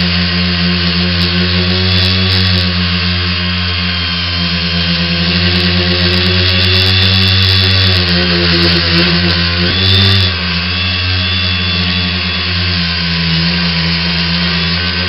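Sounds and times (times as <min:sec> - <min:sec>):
drone motors humming and whining: 0:00.0 - 0:15.0.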